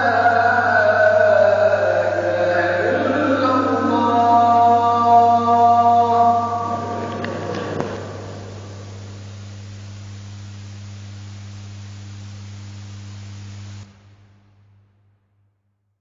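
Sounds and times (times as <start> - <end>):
low electrical hum with hiss: 0.0 - 15.3.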